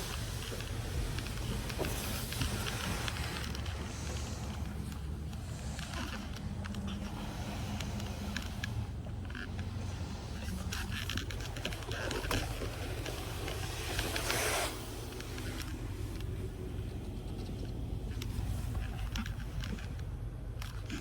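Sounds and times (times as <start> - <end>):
car wash machinery rumble: 0.0 - 21.0
water pattering on car body: 0.0 - 21.0.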